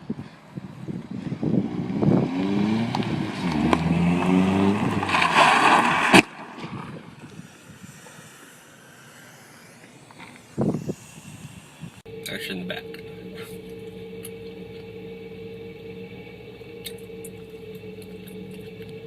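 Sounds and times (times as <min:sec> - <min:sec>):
car engine revving: 0:01.2 - 0:06.6, 0:07.3 - 0:19.0.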